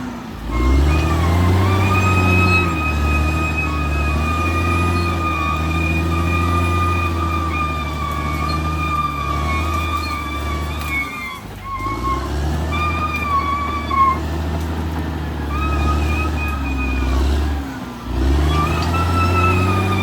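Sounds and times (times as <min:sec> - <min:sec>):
bulldozer diesel engine under load: 0:00.0 - 0:20.0
high wavering squeal: 0:00.5 - 0:14.2, 0:15.2 - 0:17.7, 0:18.4 - 0:20.0.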